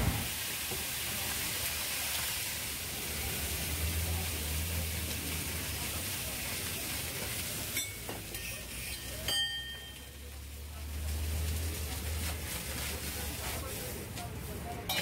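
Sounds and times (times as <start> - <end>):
food sizzling on a griddle: 0.1 - 15.0.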